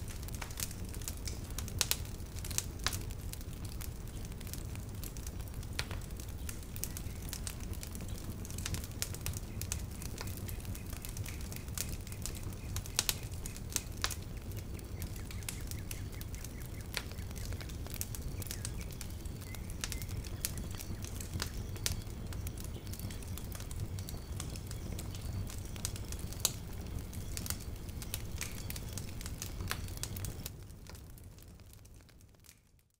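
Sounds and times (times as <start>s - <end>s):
low fire rumble: 0.0s - 32.9s
wood fire crackling: 0.0s - 32.9s.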